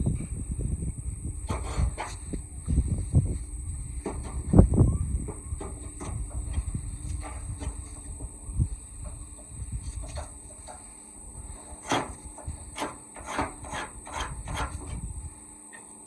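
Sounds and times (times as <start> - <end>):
low steady rumble: 0.0 - 15.5
hand tool scraping: 1.4 - 15.2.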